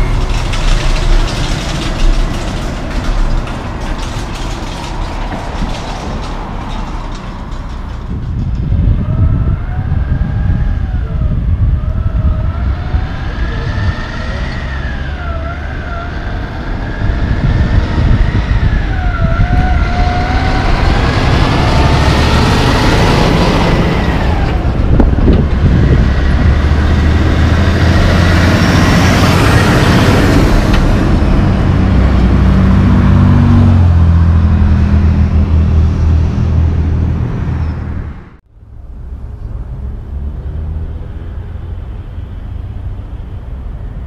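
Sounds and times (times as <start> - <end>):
diesel truck engine rumble: 0.0 - 44.0.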